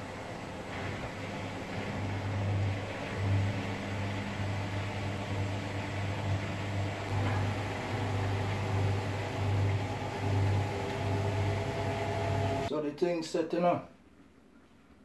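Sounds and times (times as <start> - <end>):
washing machine motor hum: 0.0 - 12.7.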